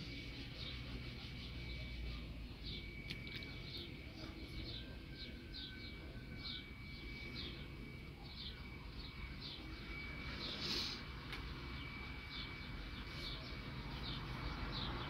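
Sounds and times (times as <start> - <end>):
small birds chirping: 0.0 - 15.0
thin steady high tone: 0.0 - 15.0.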